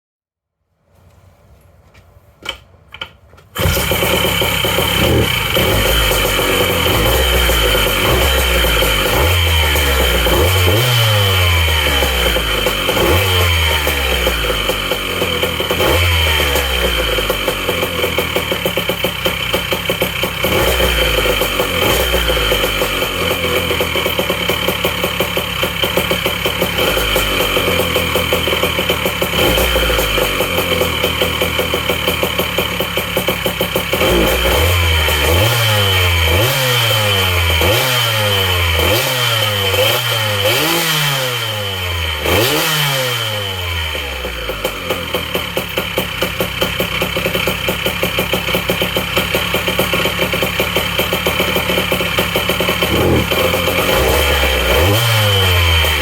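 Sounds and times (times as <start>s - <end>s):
engine revving: 3.6s - 47.5s, 48.1s - 56.0s.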